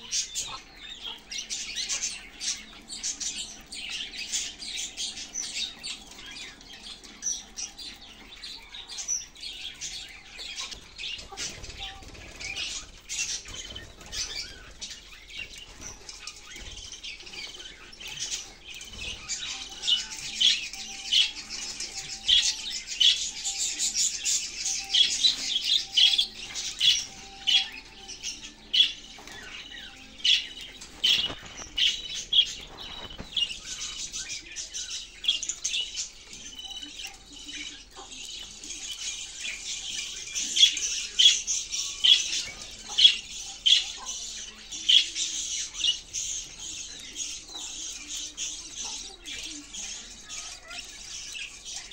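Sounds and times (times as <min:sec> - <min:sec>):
budgerigars chirping: 0:00.0 - 0:51.9
wings fluttering: 0:09.7 - 0:51.9.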